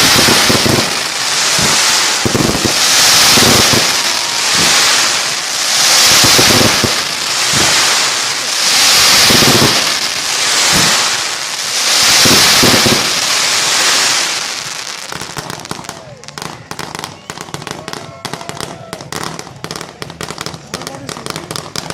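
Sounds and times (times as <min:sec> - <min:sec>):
firework pops and crackles: 0:00.0 - 0:21.9
fireworks rushing hiss: 0:00.0 - 0:21.9.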